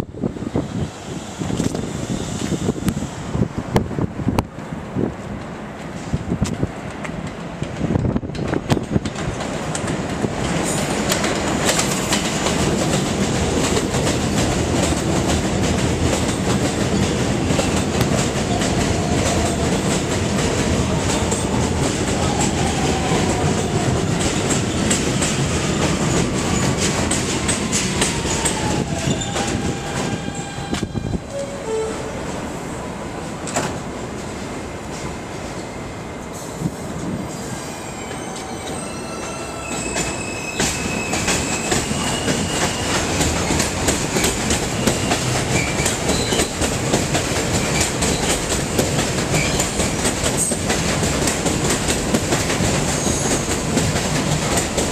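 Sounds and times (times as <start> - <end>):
falling whine of train: 0.0 - 54.9
subway train wheels clicking: 0.0 - 54.9.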